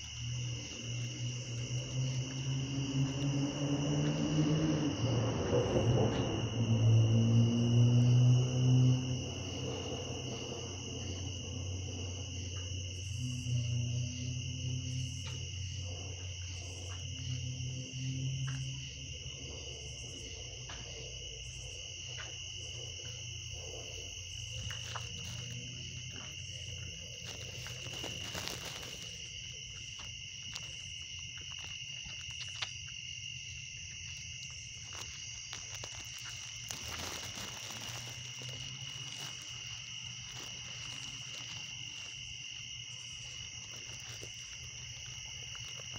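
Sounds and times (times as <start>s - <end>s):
night insects trilling: 0.0s - 45.9s.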